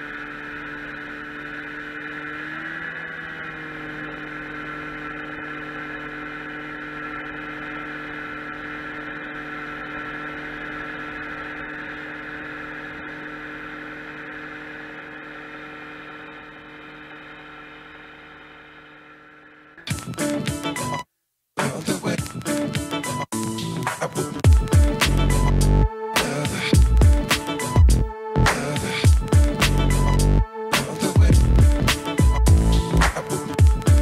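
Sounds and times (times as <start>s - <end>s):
outboard motor droning: 0.0s - 19.8s, 24.4s - 34.0s.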